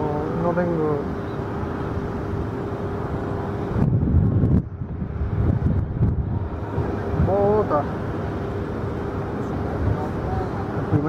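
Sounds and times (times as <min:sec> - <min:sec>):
constant whine: 0:00.0 - 0:11.0
machinery hum: 0:00.0 - 0:11.0
wind buffeting microphone: 0:01.0 - 0:11.0.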